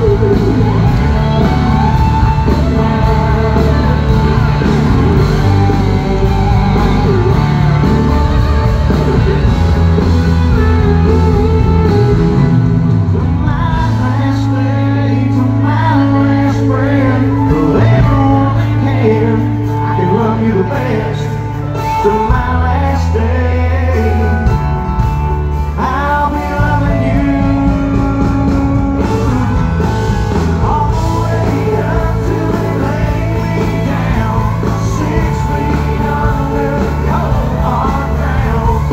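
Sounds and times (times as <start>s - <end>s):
man singing: 0.0s - 12.5s, 13.2s - 38.9s
electric guitars: 0.0s - 38.9s.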